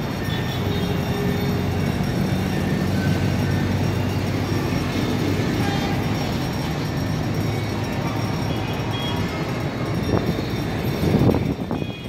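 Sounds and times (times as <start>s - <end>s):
road traffic hum: 0.0s - 12.0s
train rumbling: 0.0s - 12.0s.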